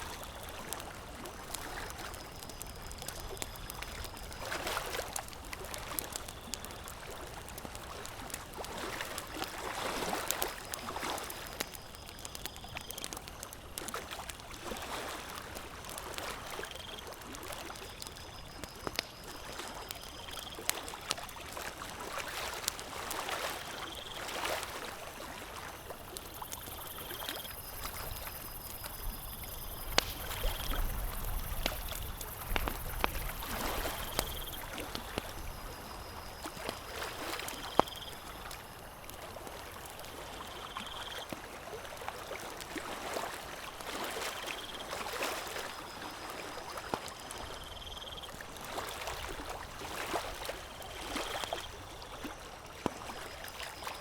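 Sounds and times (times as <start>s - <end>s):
campfire crackling: 0.0s - 53.9s
small waves lapping shore: 0.0s - 54.0s.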